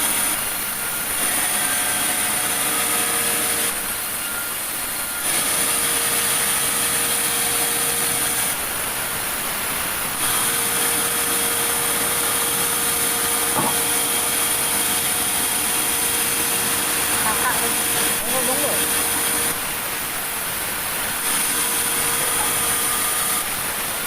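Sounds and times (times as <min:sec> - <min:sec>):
sawmill saw cutting log: 0:00.0 - 0:24.0.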